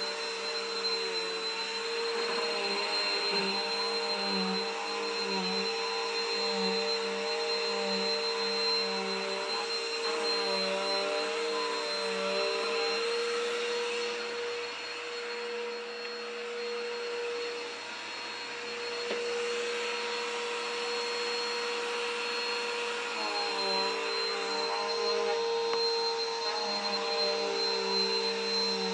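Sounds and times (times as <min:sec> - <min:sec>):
vacuum cleaner whine: 0:00.0 - 0:28.9.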